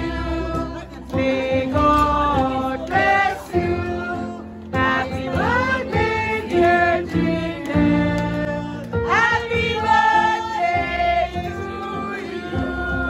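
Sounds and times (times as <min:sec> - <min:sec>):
song with singing voices: 0:00.0 - 0:13.0.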